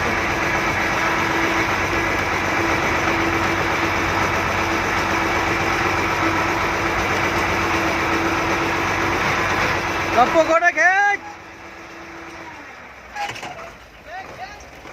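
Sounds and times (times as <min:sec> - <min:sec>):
boat engine running: 0:00.0 - 0:14.9.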